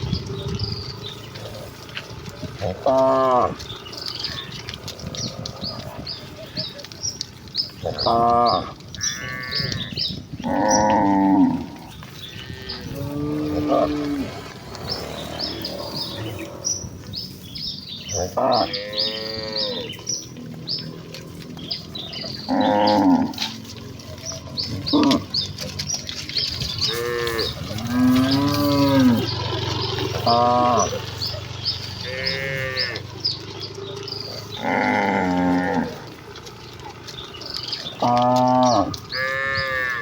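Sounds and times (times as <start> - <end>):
cattle mooing: 0.0 - 6.9, 7.7 - 17.1, 18.1 - 40.0.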